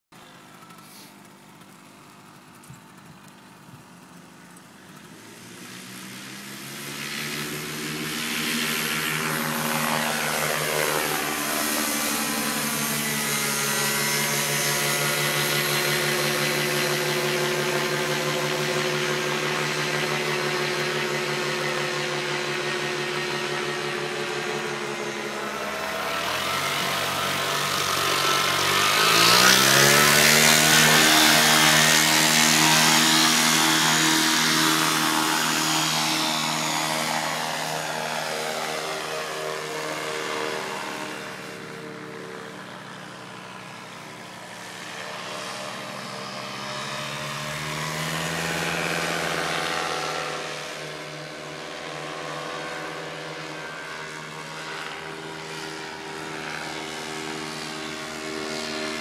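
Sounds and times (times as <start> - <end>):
paramotor engine running and revving: 0.2 - 59.0.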